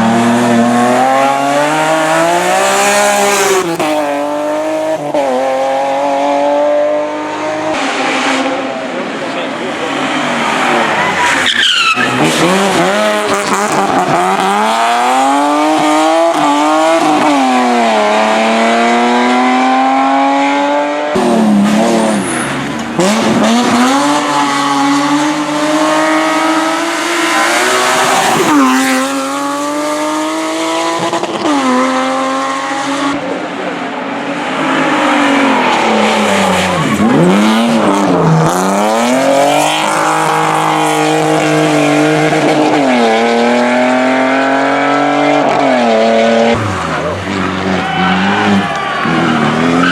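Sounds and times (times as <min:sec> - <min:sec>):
race car engine accelerating: 0:00.0 - 0:49.9.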